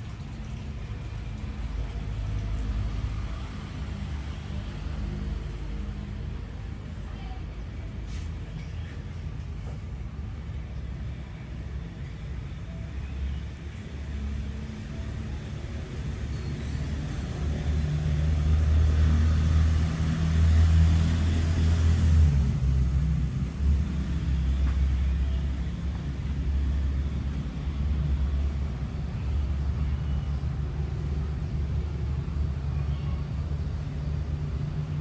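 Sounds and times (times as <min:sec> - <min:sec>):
low engine rumble: 0:00.0 - 0:35.0.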